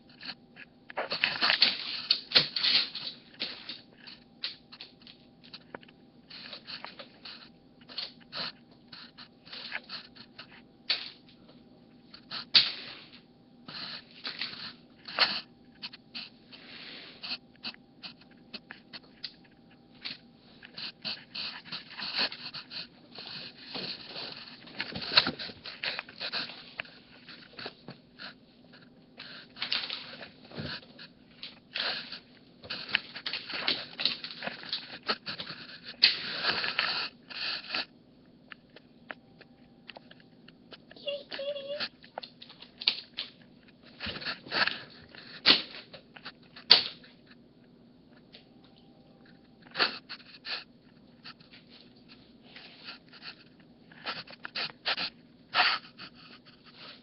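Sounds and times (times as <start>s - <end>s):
steady low hum: 0.0s - 57.0s
cat scuffling and scratching: 1.0s - 37.9s, 41.4s - 47.4s, 49.2s - 57.0s.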